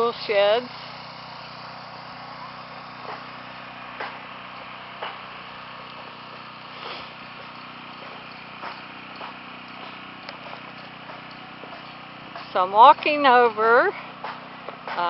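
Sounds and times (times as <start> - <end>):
engine running with low hum: 0.0 - 15.0.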